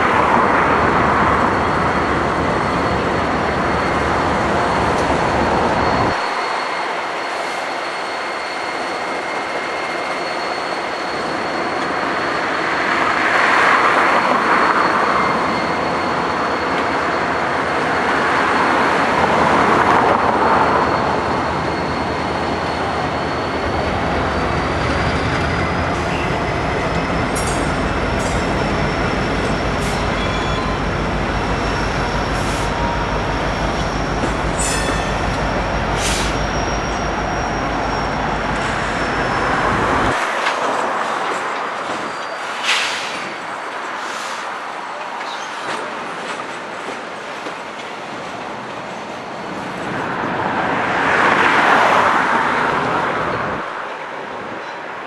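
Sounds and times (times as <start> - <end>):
high wheel squeal: 0.0 - 45.9, 47.5 - 53.1
diesel locomotives passing: 0.0 - 55.0
train rolling rumble and clanks: 0.0 - 55.0.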